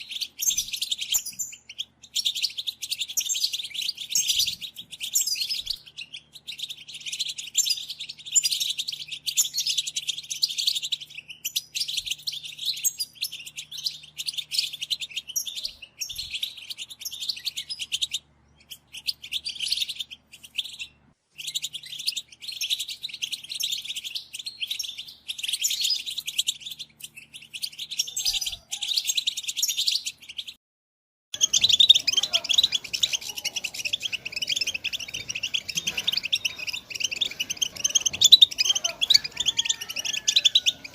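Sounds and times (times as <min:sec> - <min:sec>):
goldfinch twittering song: 0:00.0 - 0:30.6, 0:31.4 - 0:40.9.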